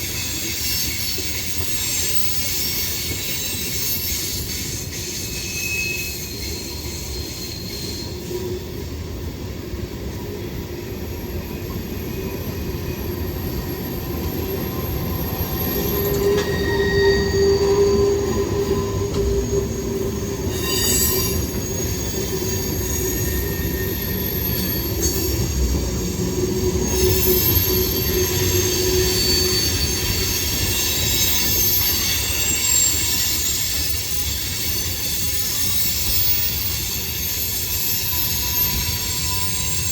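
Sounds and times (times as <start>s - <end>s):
train rumble: 0.0s - 39.9s
train wheels squealing: 0.0s - 39.9s.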